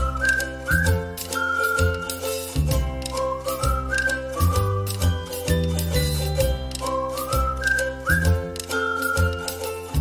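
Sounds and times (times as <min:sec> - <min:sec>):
light percussion: 0:00.0 - 0:10.0
whistled melody: 0:00.0 - 0:10.0.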